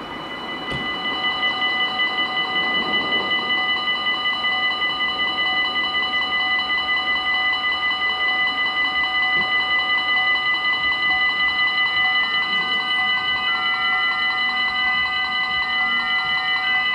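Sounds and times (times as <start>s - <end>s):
level crossing warning bells: 0.0s - 16.9s.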